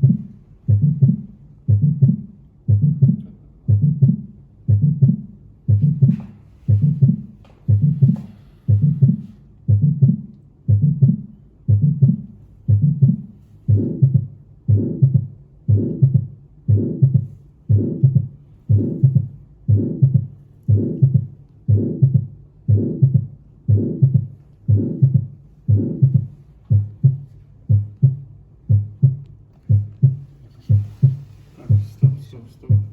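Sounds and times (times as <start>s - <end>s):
heartbeat thumps: 0.0s - 32.9s.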